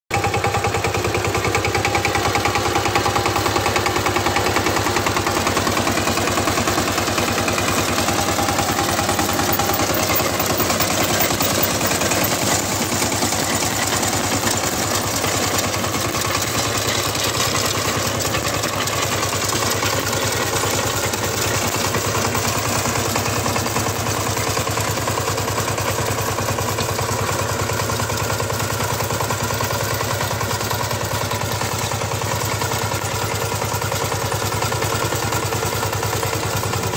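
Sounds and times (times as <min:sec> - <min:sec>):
diesel engine running: 0:00.1 - 0:36.9
chain conveyor metallic clatter: 0:04.2 - 0:36.9.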